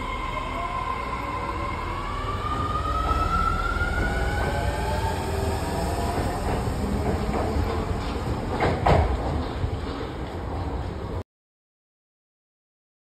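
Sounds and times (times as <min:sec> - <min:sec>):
wheels rumbling on rail: 0:00.0 - 0:11.2.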